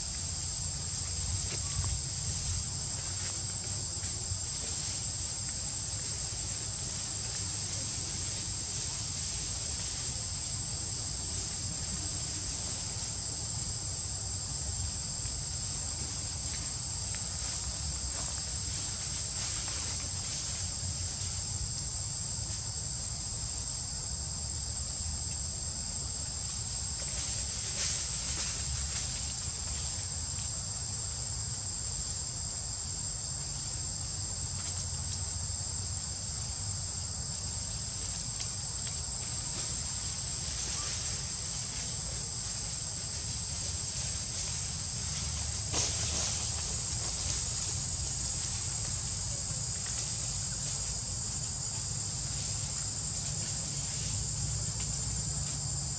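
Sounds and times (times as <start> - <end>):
insect chorus droning: 0.0 - 55.9.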